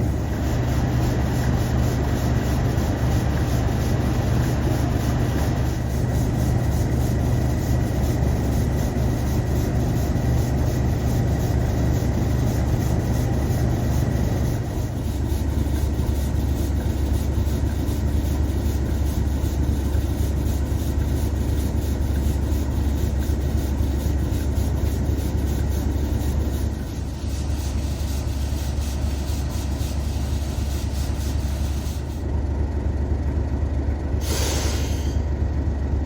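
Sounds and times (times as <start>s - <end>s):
diesel locomotive engine drone: 0.0s - 36.0s.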